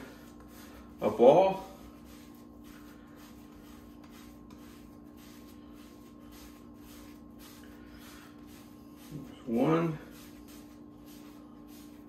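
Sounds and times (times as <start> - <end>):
hands rolling dough on wood: 0.0 - 12.0
steady low hum: 0.0 - 12.0.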